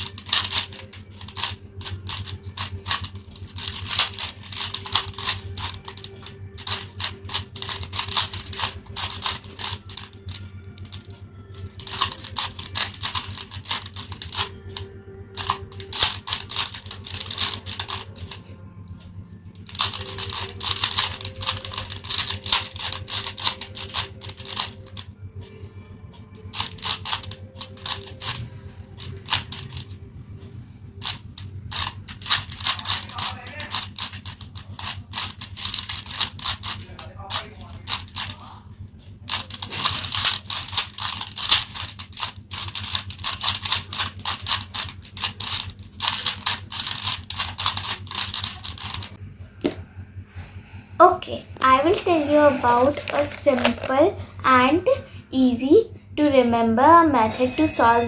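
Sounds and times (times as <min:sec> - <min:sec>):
puzzle cube plastic clicks: 0:00.0 - 0:18.4, 0:19.5 - 0:25.1, 0:26.4 - 0:30.0, 0:31.0 - 0:38.4, 0:39.3 - 0:49.2, 0:51.9 - 0:54.1.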